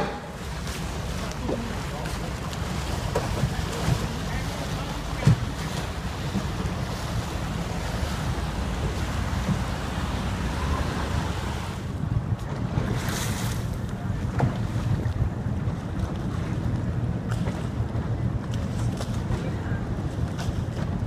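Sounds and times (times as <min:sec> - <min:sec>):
water sloshing around boat: 0:00.0 - 0:21.0.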